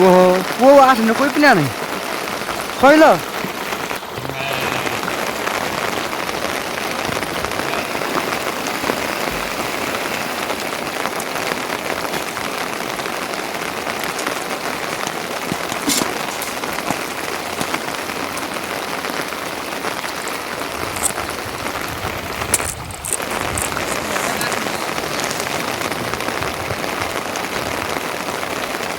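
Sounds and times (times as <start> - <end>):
rain falling: 0.0 - 28.9.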